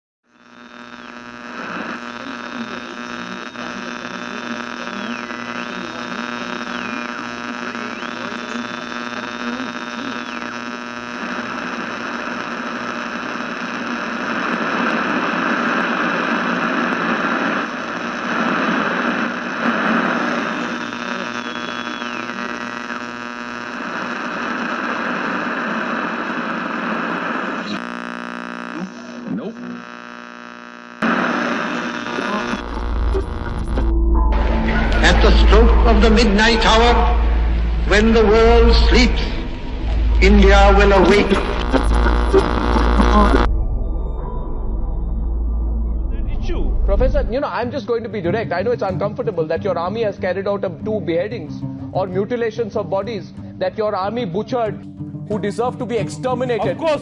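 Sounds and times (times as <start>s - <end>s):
electrical hum: 0.4s - 47.4s.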